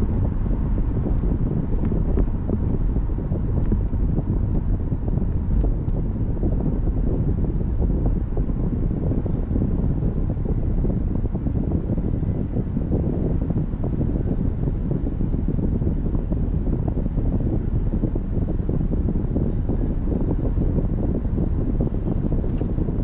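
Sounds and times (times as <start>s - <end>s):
car driving rumble: 0.0s - 23.0s
wind noise: 0.0s - 23.0s.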